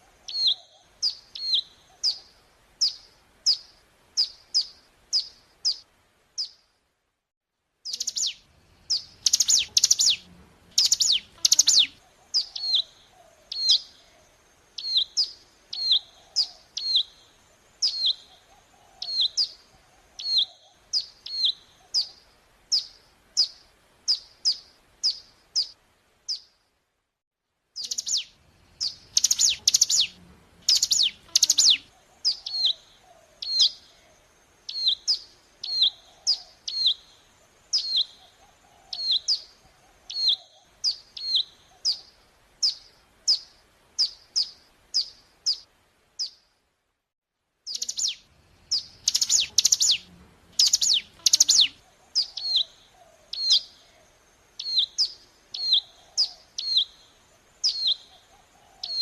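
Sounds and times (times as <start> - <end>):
recorded bird song: 0.0 - 6.8, 7.8 - 26.8, 27.6 - 46.7, 47.6 - 59.0.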